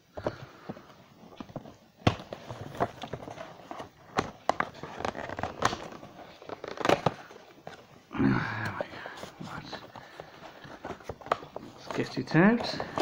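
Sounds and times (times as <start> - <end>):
cardboard and plastic crinkling: 0.1 - 8.1, 8.7 - 13.0.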